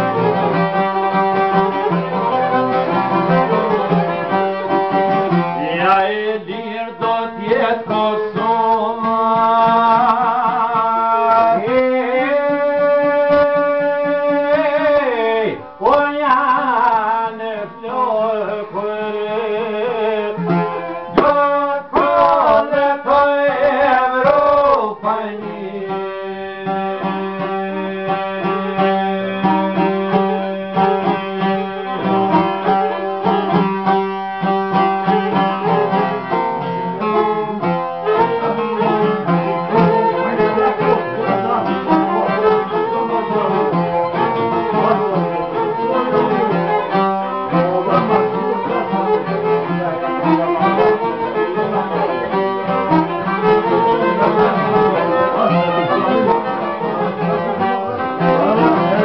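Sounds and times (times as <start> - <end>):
plucked lute music: 0.0 - 59.0.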